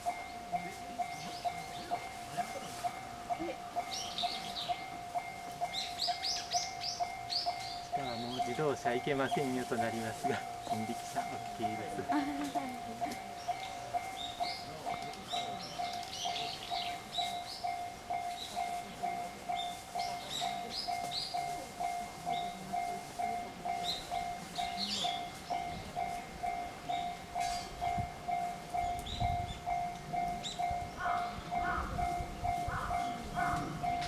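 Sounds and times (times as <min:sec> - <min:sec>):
level crossing bell ringing: 0:00.0 - 0:34.0
train low rumble: 0:00.0 - 0:34.0.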